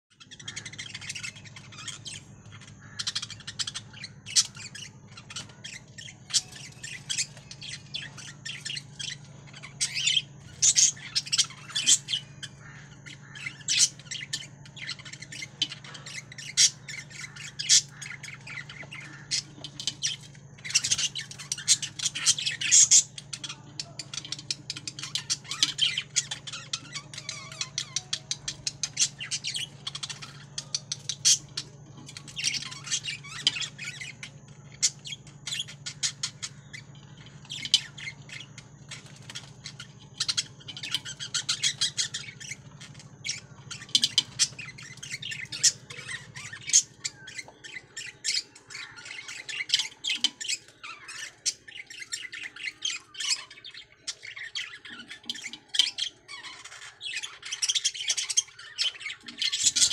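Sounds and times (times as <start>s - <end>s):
budgerigars chirping and squawking: 0.1s - 59.9s
steady low hum: 0.2s - 54.9s.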